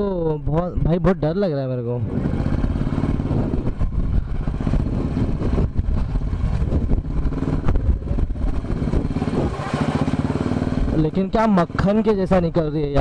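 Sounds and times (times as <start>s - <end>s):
motorcycle engine running at low speed: 1.9s - 13.0s.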